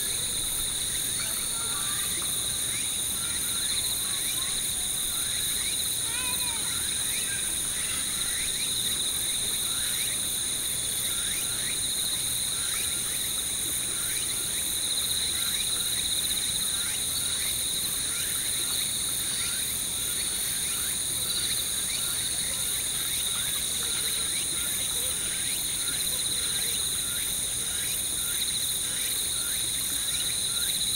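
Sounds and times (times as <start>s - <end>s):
crickets chirring: 0.0s - 30.9s.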